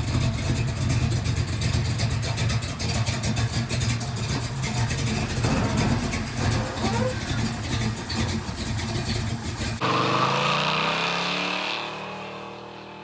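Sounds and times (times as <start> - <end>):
car exhaust revving rough: 0.0 - 12.3
car engine driving off: 0.0 - 13.0.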